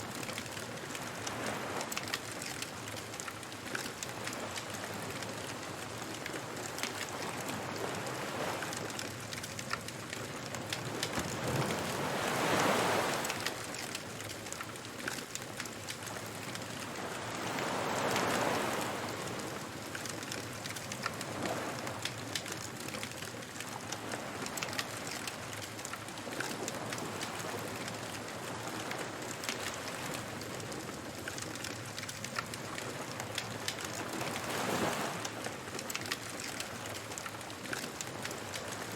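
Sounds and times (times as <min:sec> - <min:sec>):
fire crackling and popping: 0:00.1 - 0:17.7, 0:18.4 - 0:38.8
surf waves washing: 0:03.9 - 0:22.8, 0:23.5 - 0:38.9.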